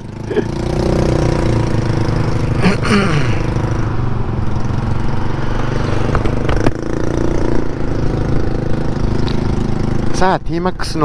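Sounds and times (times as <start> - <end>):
scooter engine running: 0.0 - 10.4.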